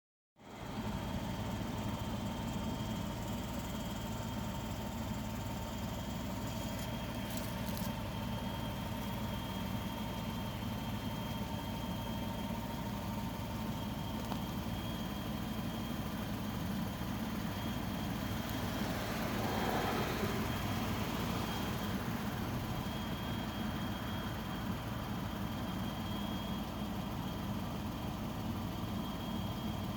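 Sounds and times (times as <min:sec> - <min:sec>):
car engine idling: 0:00.4 - 0:29.9
high-pitched engine tones: 0:00.6 - 0:29.9.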